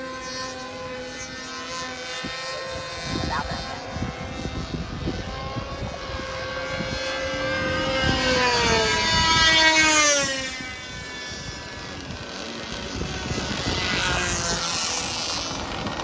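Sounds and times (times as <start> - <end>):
model plane engine screaming: 0.0 - 16.0.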